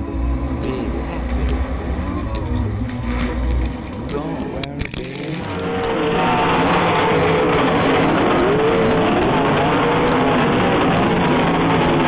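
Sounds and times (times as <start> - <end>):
sprint car engines racing: 0.0 - 12.0.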